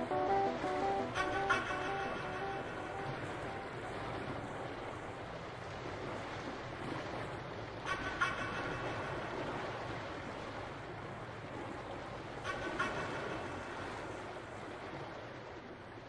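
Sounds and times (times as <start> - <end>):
wind and water rushing: 0.0 - 16.0.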